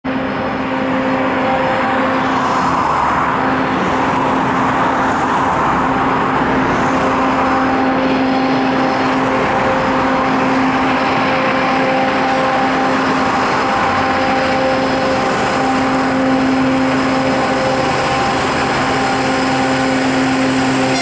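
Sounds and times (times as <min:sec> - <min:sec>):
diesel locomotive engine drone: 0:00.0 - 0:21.0
train rushing noise: 0:00.0 - 0:21.0.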